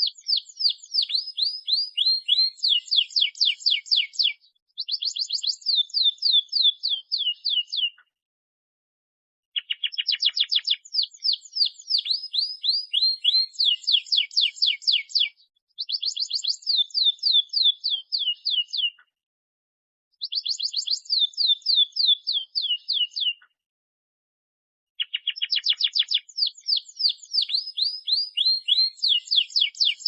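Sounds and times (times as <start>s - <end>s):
canary singing fast trills: 0.0s - 8.1s, 9.6s - 19.1s, 20.2s - 23.5s, 25.0s - 30.0s.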